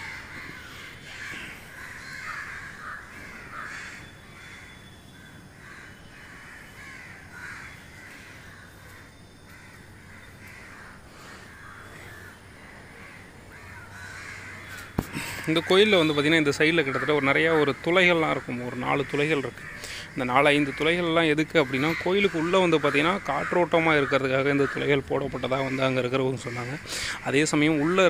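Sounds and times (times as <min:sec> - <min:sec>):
birds making short harsh calls: 0:00.0 - 0:28.0.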